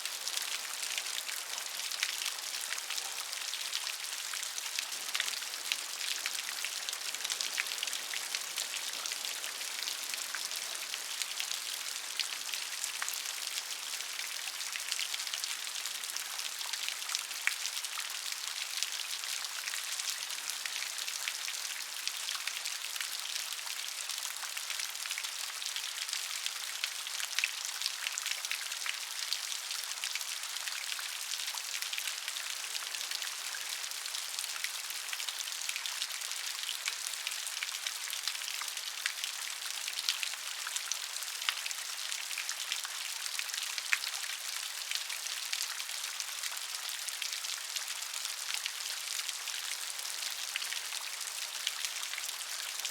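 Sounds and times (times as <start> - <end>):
steady rain pattering: 0.0 - 52.9.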